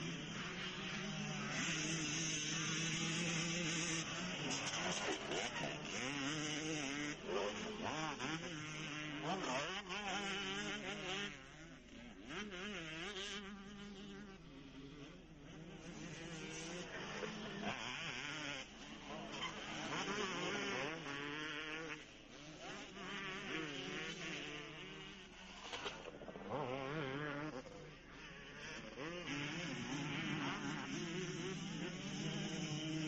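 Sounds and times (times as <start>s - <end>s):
motocross bikes revving: 0.0s - 33.0s.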